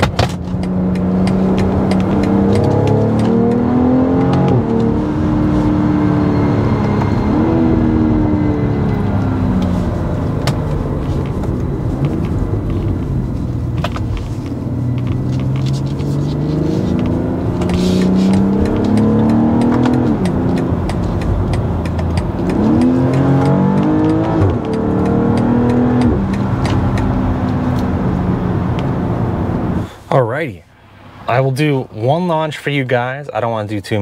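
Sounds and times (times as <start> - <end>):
car engine accelerating through gears: 0.2 - 29.9.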